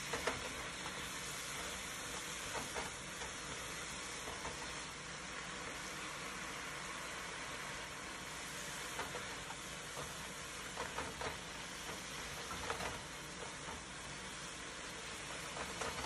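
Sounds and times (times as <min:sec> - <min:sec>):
spinach sizzling in a pan: 0:00.0 - 0:16.0.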